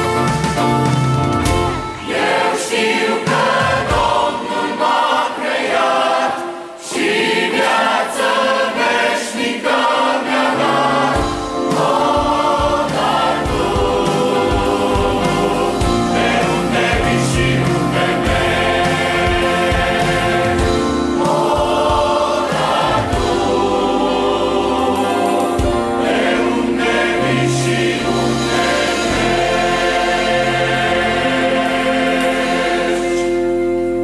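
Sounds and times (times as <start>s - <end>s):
band playing: 0.0s - 34.0s
choir singing in harmony: 1.4s - 34.0s.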